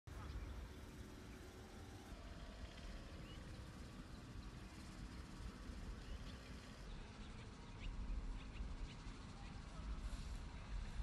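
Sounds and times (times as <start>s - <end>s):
low steady rumble: 0.1s - 11.0s.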